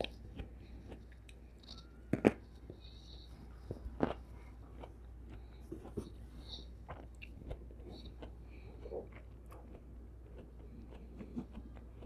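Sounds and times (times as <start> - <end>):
person chewing grapes: 0.0 - 12.0.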